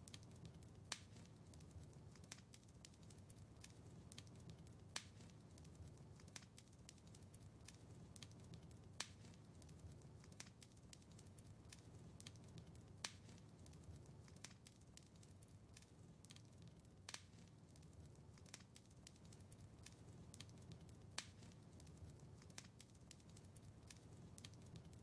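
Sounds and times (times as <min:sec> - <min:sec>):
sharp fire pops: 0:00.0 - 0:25.0
wood fire crackling: 0:00.0 - 0:25.0.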